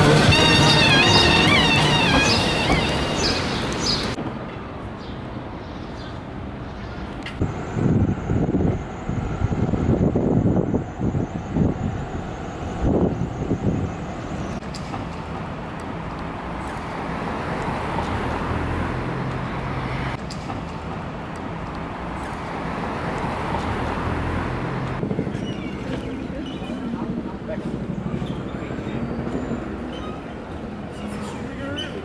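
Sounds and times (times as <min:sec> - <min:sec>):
passing vehicles rushing: 0:00.0 - 0:04.8, 0:07.4 - 0:32.0.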